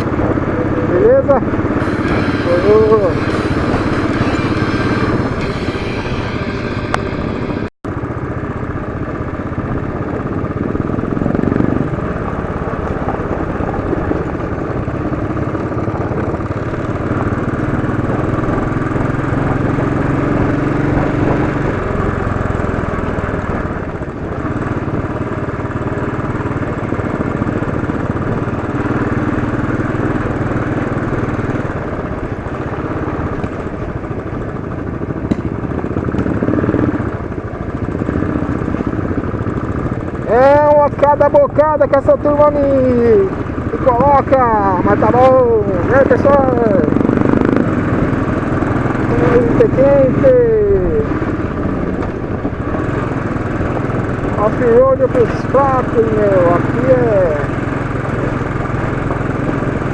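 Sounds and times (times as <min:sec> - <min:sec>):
motorcycle engine revving: 0:00.0 - 0:08.7, 0:09.5 - 0:59.9.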